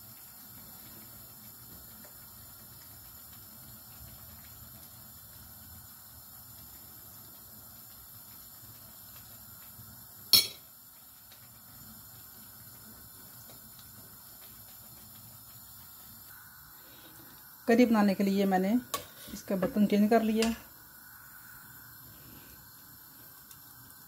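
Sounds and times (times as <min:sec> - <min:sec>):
paste bubbling in a frying pan: 0:00.0 - 0:24.0.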